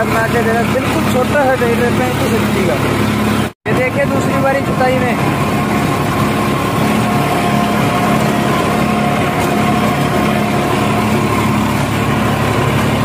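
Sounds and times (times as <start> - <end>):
steady whine: 0.0 - 13.0
tractor diesel engine under load: 0.0 - 13.0.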